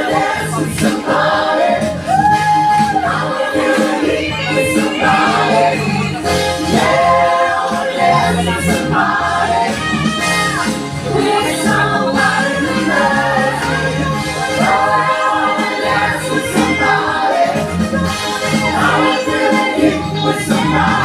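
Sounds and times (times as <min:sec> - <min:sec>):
band accompaniment: 0:00.0 - 0:21.0
group of voices singing: 0:00.0 - 0:21.0.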